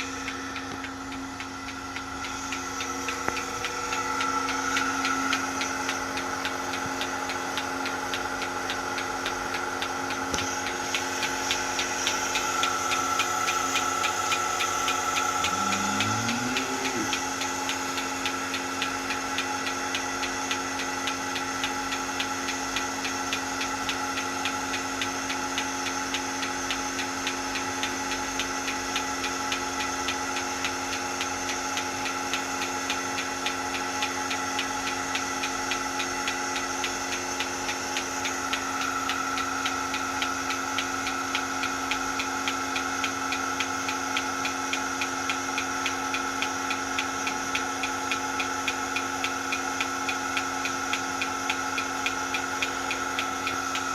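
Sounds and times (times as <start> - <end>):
milking machine humming and ticking: 0.0 - 53.9.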